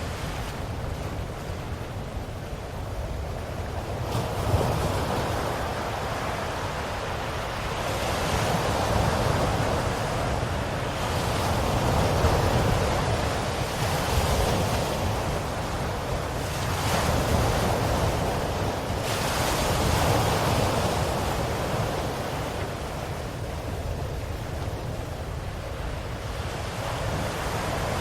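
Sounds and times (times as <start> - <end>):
ocean waves washing ashore: 0.0 - 28.0.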